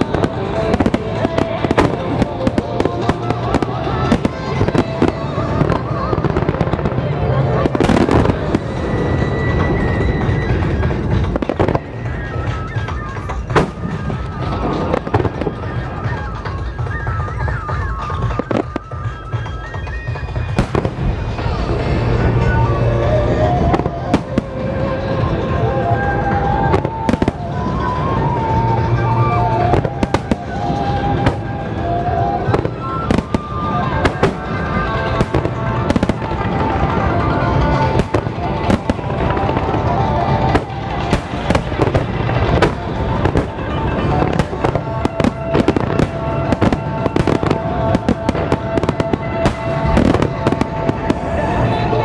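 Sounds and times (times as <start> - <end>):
fireworks bursting bangs: 0.0 - 52.0
music: 0.0 - 52.0.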